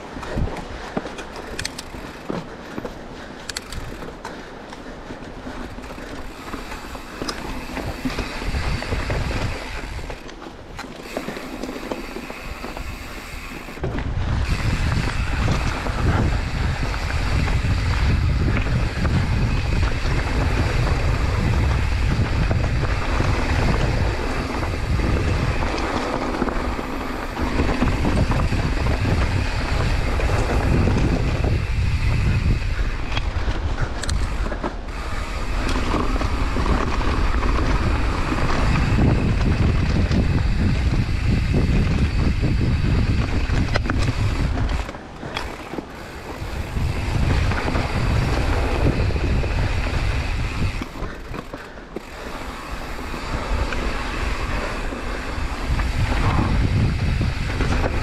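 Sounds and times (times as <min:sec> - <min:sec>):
tyres rolling on dirt trail: 0:00.0 - 0:58.0
wind buffeting microphone: 0:00.0 - 0:58.0.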